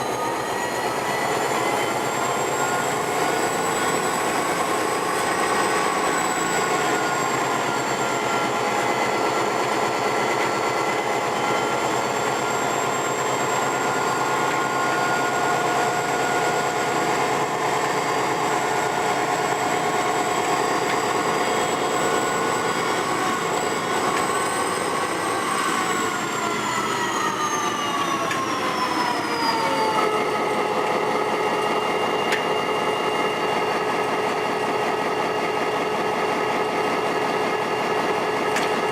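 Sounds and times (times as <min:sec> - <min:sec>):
diesel locomotive engine whine: 0:00.0 - 0:38.9.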